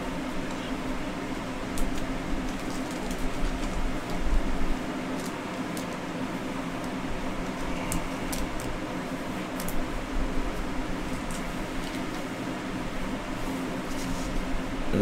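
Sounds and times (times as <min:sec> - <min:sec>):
mechanical fan hum: 0:00.0 - 0:15.0.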